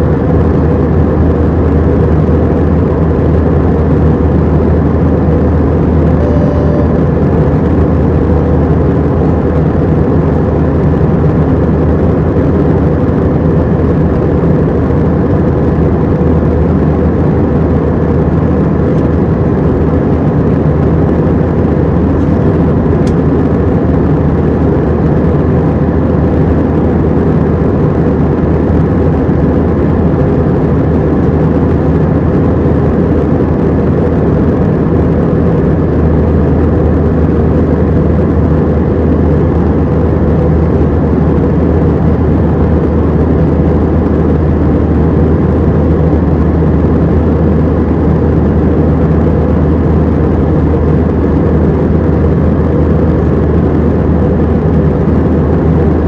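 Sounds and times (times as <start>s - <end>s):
airflow around fuselage: 0.0s - 56.0s
jet engines droning: 0.0s - 56.0s.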